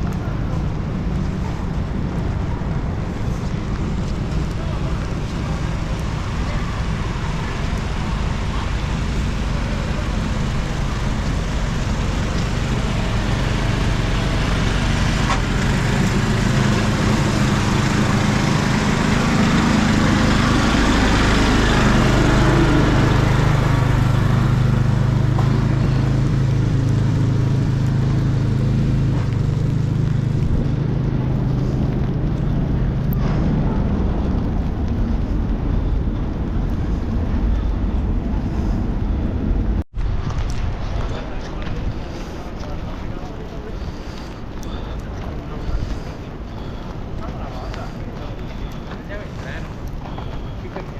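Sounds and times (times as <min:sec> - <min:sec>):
street traffic hiss: 0:00.0 - 0:50.9
vehicle engine drone: 0:00.0 - 0:50.9.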